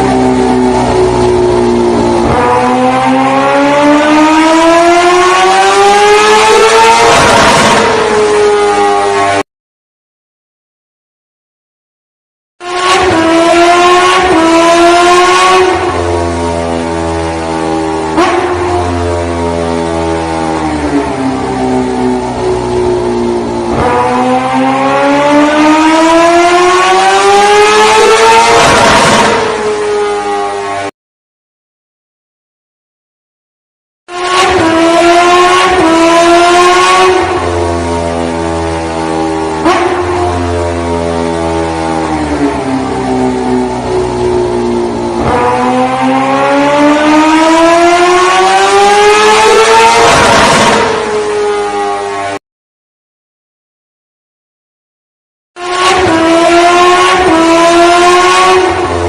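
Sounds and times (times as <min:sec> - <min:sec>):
engine accelerating: 0:00.0 - 0:09.4, 0:12.6 - 0:30.7, 0:34.1 - 0:52.2, 0:55.6 - 0:59.0
motor drone rising in pitch: 0:00.0 - 0:09.4, 0:12.6 - 0:30.9, 0:34.1 - 0:52.4, 0:55.6 - 0:59.0.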